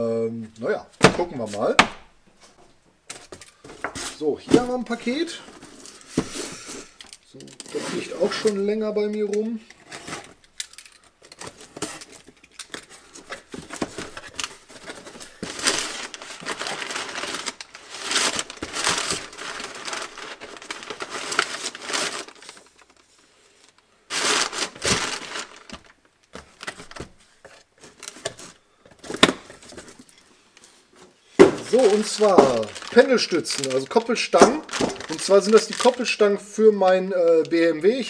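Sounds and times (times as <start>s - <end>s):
packing paper crinkling and rustling: 3.1s - 38.0s.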